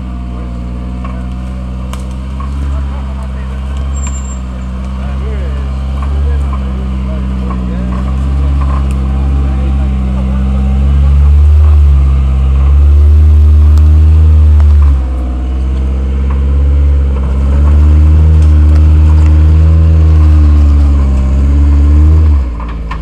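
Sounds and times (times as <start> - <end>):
engine revving hard: 0.0 - 22.7.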